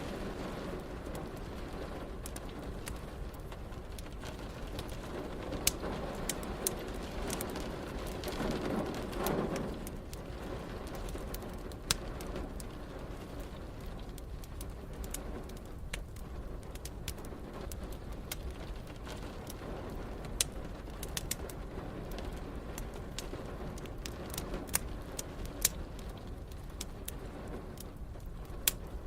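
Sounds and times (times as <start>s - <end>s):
rain hiss: 0.0s - 29.0s
wood fire crackling: 0.0s - 29.0s.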